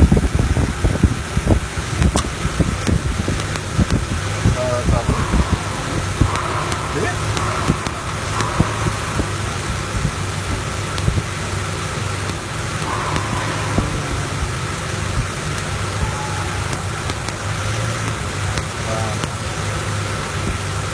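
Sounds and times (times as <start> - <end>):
engine idling hum: 0.0 - 20.9
engine misfire clicks and snaps: 0.0 - 20.9.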